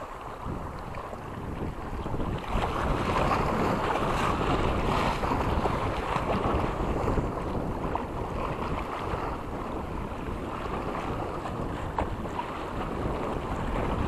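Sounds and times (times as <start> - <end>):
choppy sea rushing: 0.0 - 14.0
wind buffeting microphone: 0.0 - 14.0.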